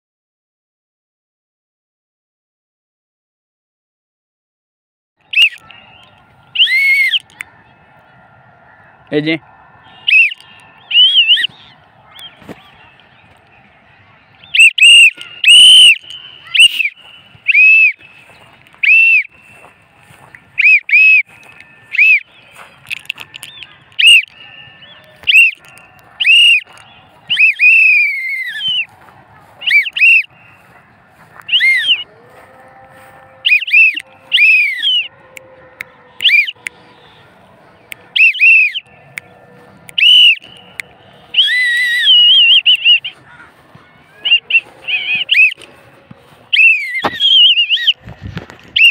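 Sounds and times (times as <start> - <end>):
whistled calls: 5.2 - 32.2, 33.2 - 48.9.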